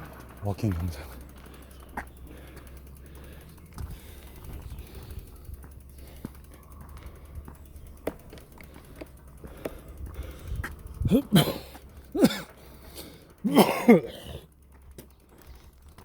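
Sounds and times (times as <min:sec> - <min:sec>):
bicycle freewheel ticking: 0:00.0 - 0:13.5, 0:14.1 - 0:16.0.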